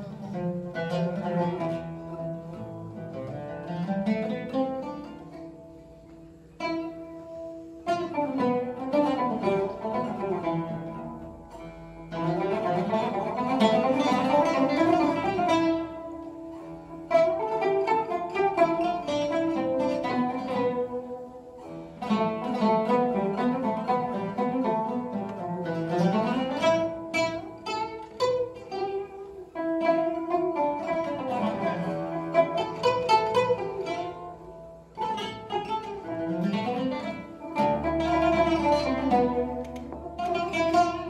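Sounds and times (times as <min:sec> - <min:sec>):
plucked lute instruments playing: 0:00.0 - 0:41.0.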